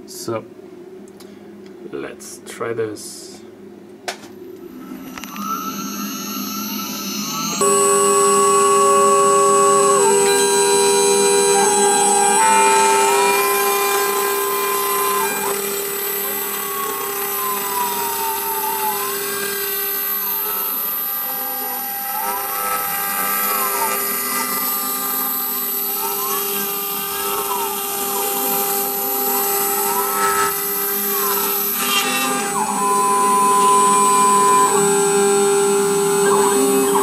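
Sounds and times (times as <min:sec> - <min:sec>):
router spindle whine: 0:04.5 - 0:37.0
stepper motor tones sliding: 0:04.6 - 0:37.0.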